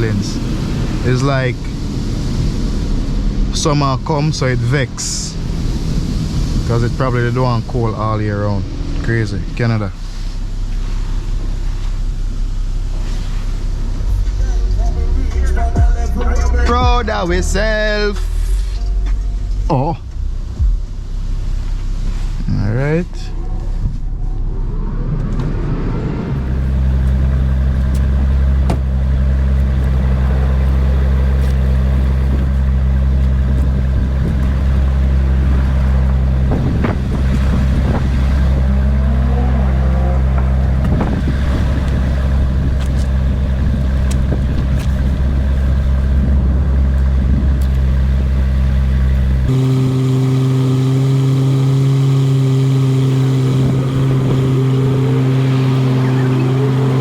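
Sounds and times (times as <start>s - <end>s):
car wash machine hum: 0.0s - 57.0s.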